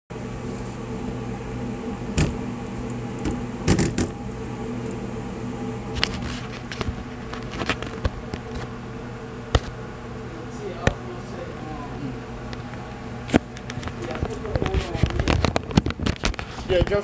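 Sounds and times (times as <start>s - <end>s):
kitchen machinery humming: 0.1s - 17.0s.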